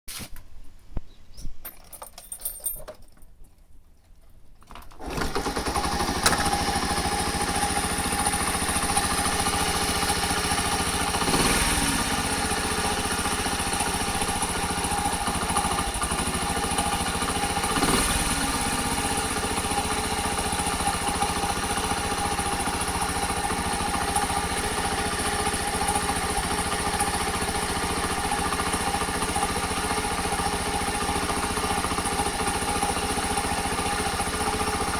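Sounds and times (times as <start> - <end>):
small motorcycle engine idling: 5.0 - 34.9.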